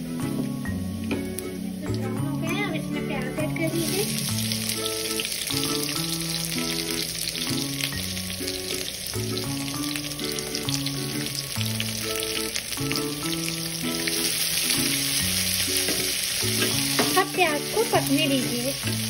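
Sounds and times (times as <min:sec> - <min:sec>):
onion sizzling in hot oil: 0:00.0 - 0:19.0
slow background music: 0:00.0 - 0:19.0.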